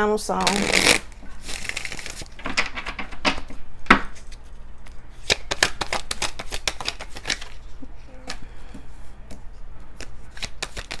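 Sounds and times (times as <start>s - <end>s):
cards being shuffled: 0.4s - 11.0s.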